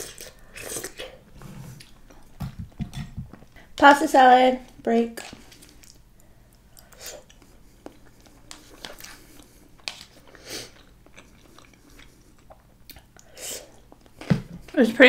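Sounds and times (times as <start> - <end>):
person chewing food: 0.0 - 3.6, 5.3 - 14.7.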